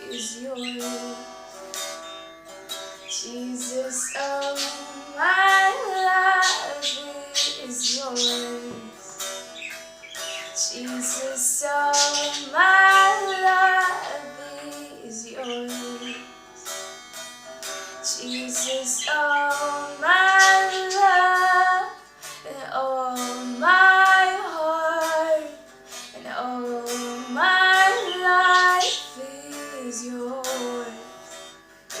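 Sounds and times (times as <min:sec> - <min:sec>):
high voice singing slow melody: 0:00.0 - 0:01.4, 0:03.0 - 0:16.7, 0:18.0 - 0:31.3
plucked guitar: 0:00.0 - 0:32.0.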